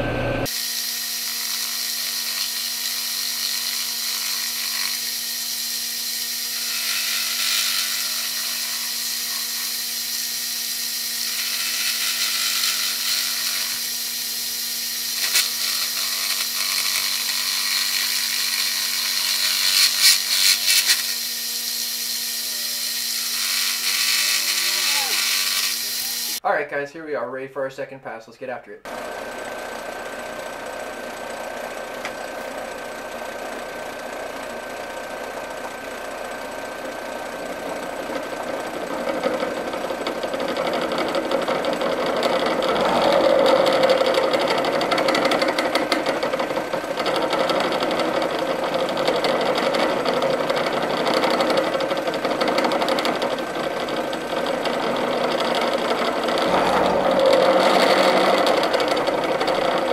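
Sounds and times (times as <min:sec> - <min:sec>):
milling machine cutting metal: 0:00.0 - 0:26.4, 0:28.9 - 0:59.9.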